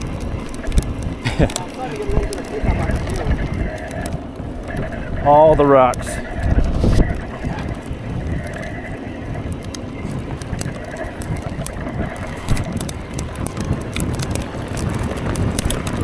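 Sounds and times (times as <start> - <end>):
bike ticks and rattles: 0.0 - 16.0
bike tyres rumbling: 0.0 - 16.0
wind on microphone: 0.0 - 16.0.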